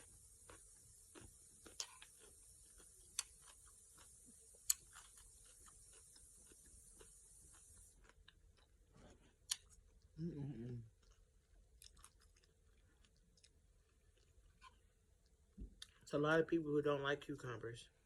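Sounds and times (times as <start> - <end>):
chewing crunchy food: 0.0 - 16.0
faint steady hiss: 0.0 - 18.0.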